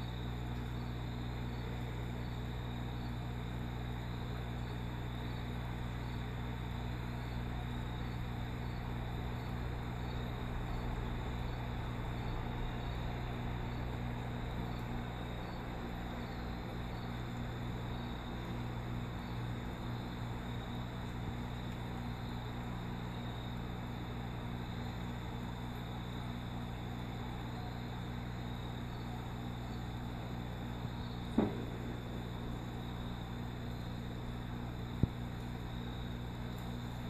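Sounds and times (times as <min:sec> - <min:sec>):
low electric hum: 0:00.0 - 0:37.0.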